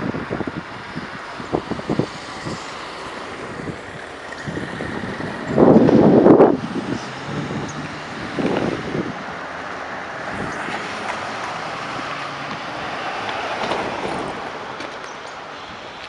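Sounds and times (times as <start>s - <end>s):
wind gust on microphone: 0.0s - 14.6s
street traffic hiss: 0.0s - 16.0s.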